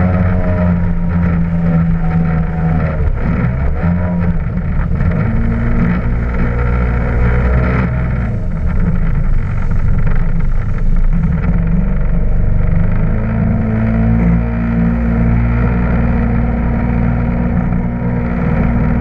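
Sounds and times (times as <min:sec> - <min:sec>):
jet ski engine drone: 0:00.0 - 0:19.0.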